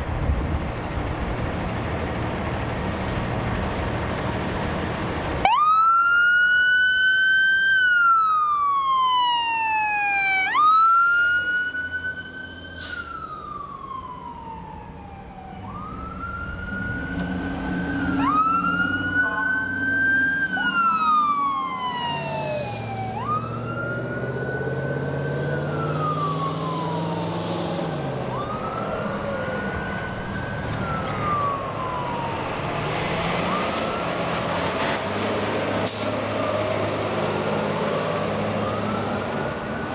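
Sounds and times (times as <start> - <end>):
diesel truck engine accelerating: 0.0 - 39.9
fire truck sirens wailing: 0.0 - 39.9.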